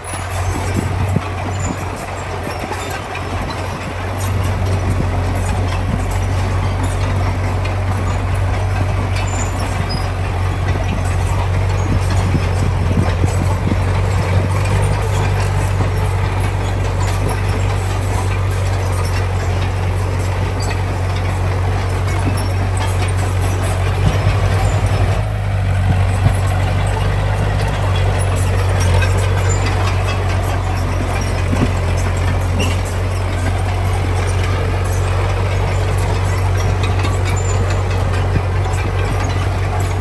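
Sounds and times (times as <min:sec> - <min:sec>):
diesel machinery running under load: 0:00.0 - 0:40.0.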